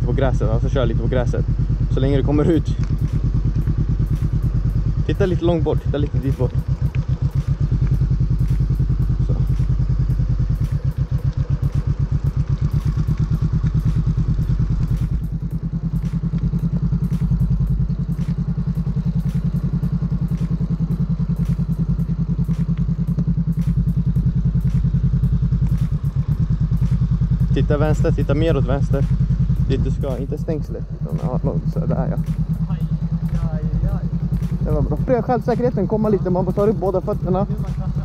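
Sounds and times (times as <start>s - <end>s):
motorcycle engine at low revs: 0.0s - 38.0s.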